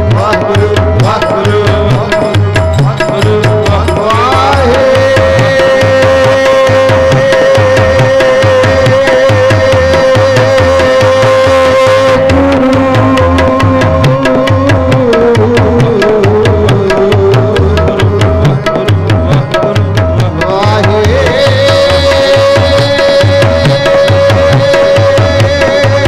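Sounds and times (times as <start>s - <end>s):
tabla rhythm with deep bass strokes: 0.0s - 26.0s.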